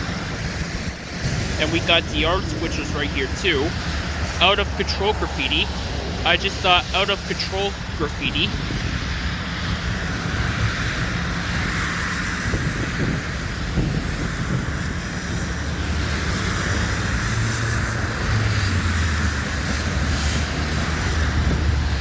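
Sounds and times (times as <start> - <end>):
wind buffeting microphone: 0.0 - 4.8, 7.7 - 22.0
freight train rumbling past: 0.0 - 22.0
low diesel engine drone: 0.0 - 22.0.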